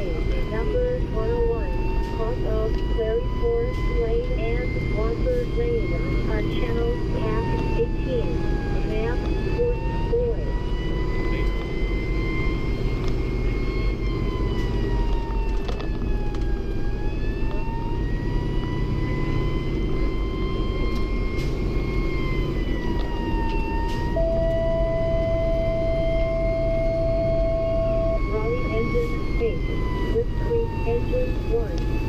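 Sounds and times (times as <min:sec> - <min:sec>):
steady single-pitch tone: 0:00.0 - 0:15.1, 0:17.1 - 0:32.0
diesel engine drone: 0:00.0 - 0:32.0
fire engine siren wailing: 0:00.0 - 0:32.0.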